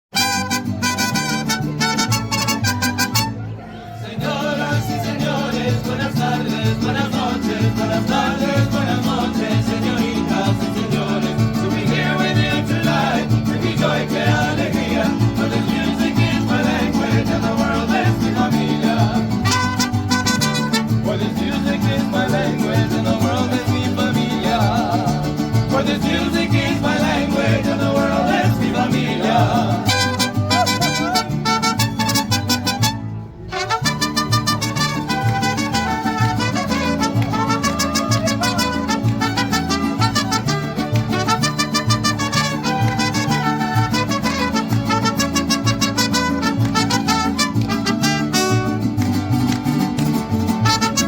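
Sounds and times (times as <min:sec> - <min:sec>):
mariachi band playing: 0:00.1 - 0:51.0.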